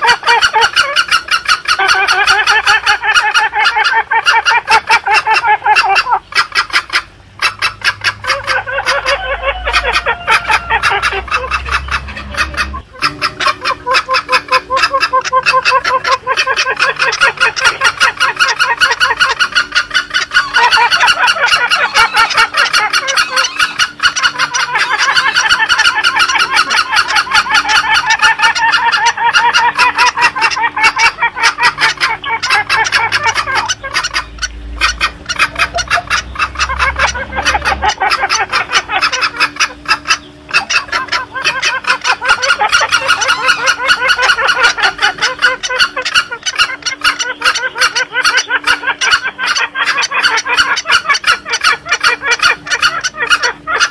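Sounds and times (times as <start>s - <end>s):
rapid overlapping bird calls: 0.0s - 53.9s.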